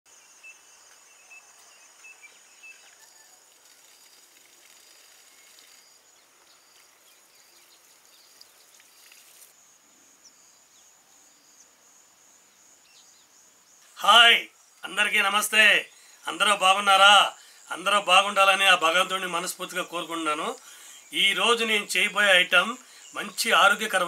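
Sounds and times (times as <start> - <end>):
bird chirping: 0.1 - 24.0
insects trilling: 0.1 - 24.0.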